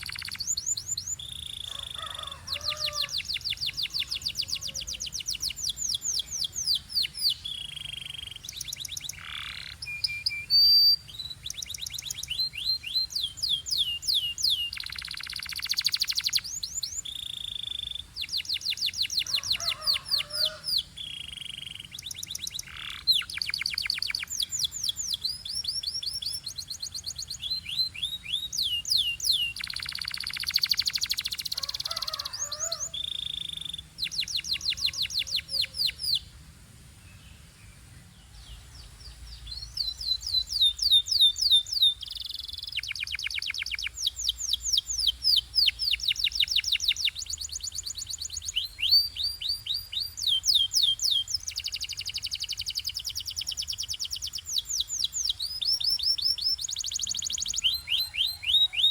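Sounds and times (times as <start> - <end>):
canary singing trills: 0.0 - 36.3, 38.3 - 58.9.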